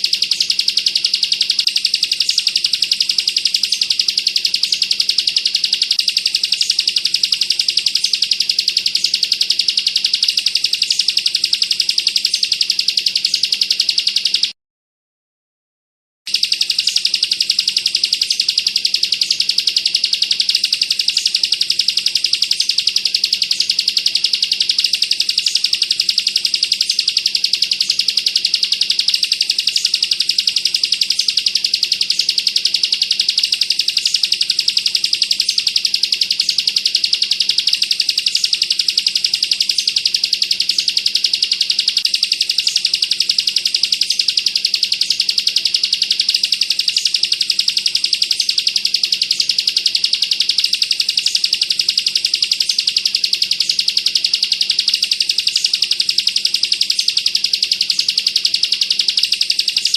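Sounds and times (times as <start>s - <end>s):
bird singing rapid high trill: 0.0s - 14.6s, 16.3s - 59.9s.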